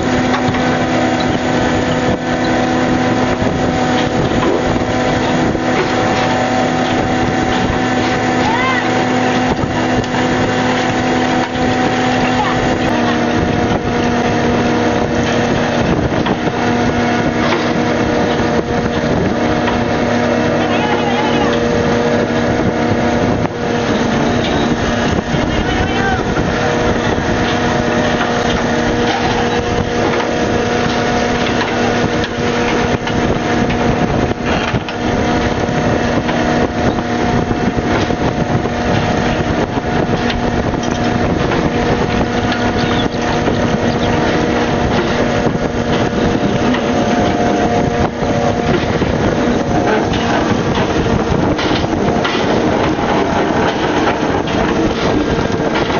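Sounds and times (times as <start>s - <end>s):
boat engine humming: 0.0s - 55.9s
constant wash of noise: 0.0s - 55.9s.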